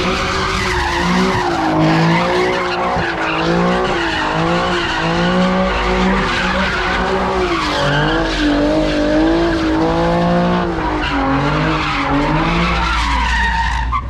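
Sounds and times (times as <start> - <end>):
car engine revving: 0.0 - 14.0
tires screeching: 0.0 - 14.0.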